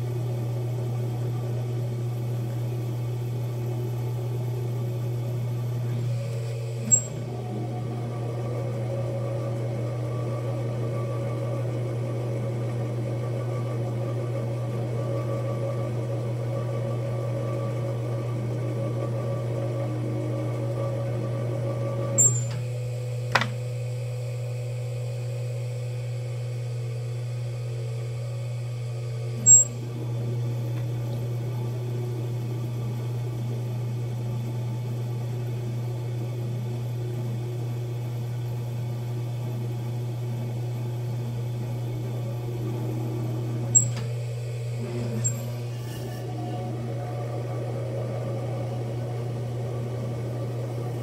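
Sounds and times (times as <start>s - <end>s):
potter's wheel motor humming: 0.0s - 51.0s.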